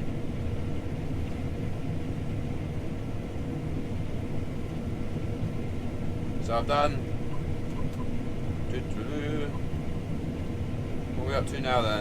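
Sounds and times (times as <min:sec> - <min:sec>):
faint steady whine: 0:00.0 - 0:12.0
combine harvester rumbling: 0:01.4 - 0:12.0.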